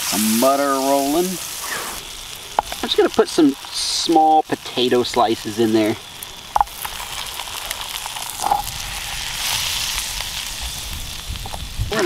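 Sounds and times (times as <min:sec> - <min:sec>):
potatoes sizzling in butter: 0:00.0 - 0:12.0.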